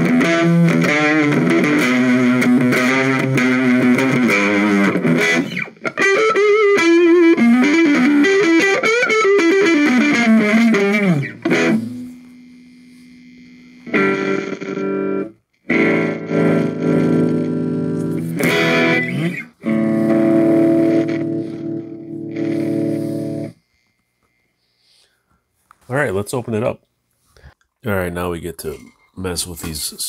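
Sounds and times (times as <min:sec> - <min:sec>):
electric guitar: 0:00.0 - 0:24.4.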